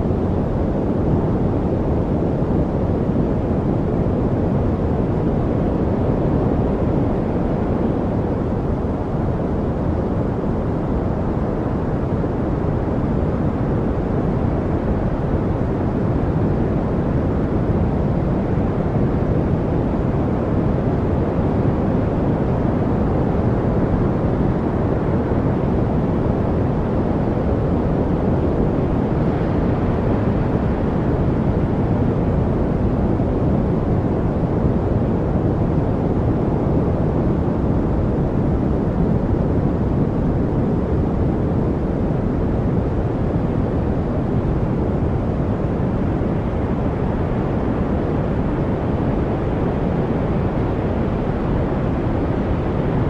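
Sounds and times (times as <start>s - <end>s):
low white noise: 0.0s - 53.0s.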